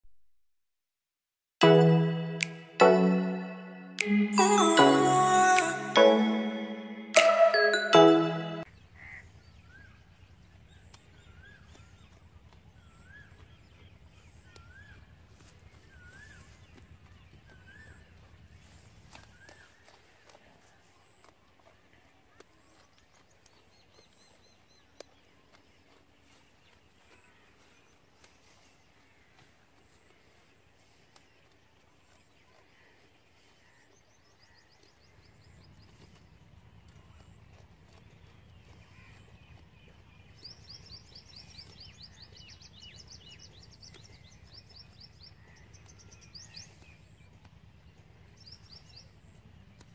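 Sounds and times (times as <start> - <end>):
faint outdoor ambience: 1.6 - 49.9.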